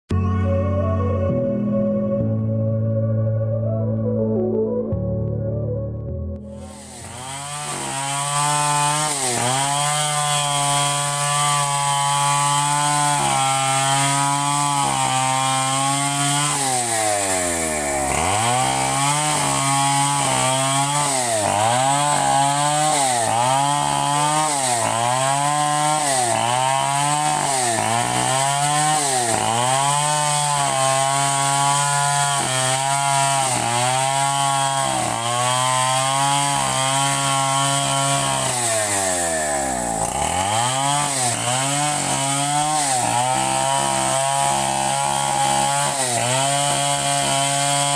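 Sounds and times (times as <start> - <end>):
chainsaw engine revving: 6.5 - 47.9.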